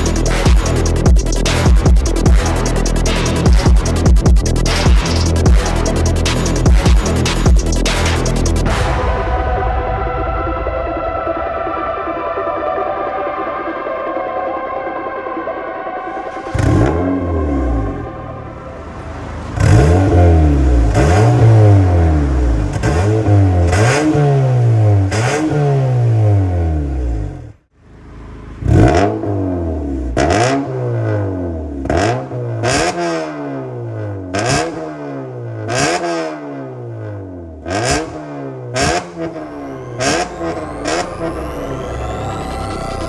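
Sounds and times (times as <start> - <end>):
car engine revving in blips: 0.0 - 8.8, 16.0 - 43.0.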